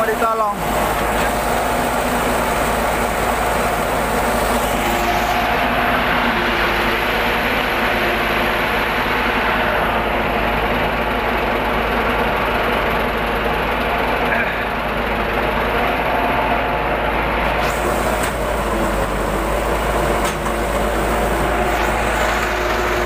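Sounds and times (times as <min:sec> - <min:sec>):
heavy truck engine running: 0:00.0 - 0:23.0.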